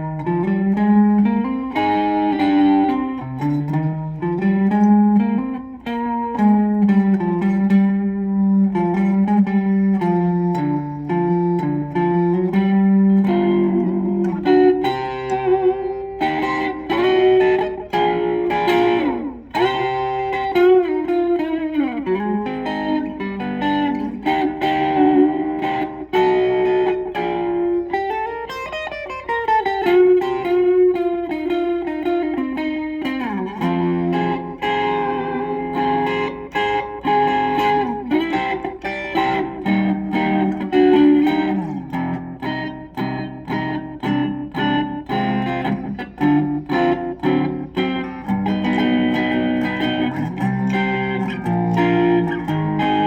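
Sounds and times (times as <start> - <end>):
electric guitar rockabilly licks: 0.0 - 53.0.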